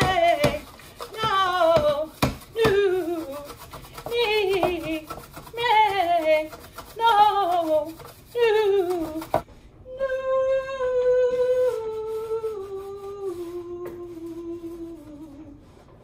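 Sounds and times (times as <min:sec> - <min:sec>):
woman singing vocal warm-ups: 0:00.0 - 0:15.8.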